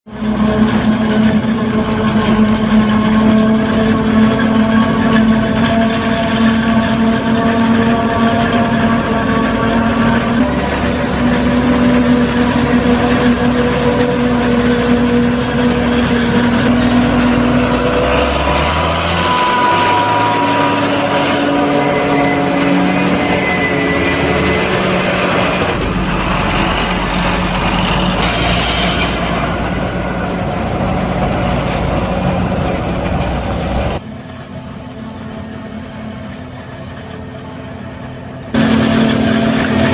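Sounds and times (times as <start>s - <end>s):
diesel engines running hard: 0.1s - 39.9s.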